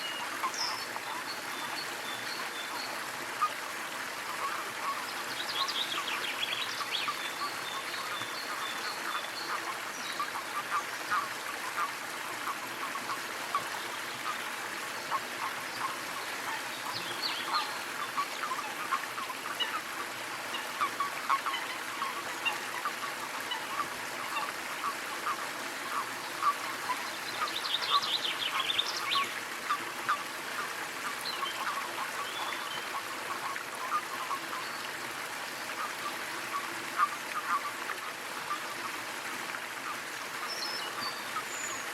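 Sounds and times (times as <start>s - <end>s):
small waterfall splashing: 0.0s - 41.9s.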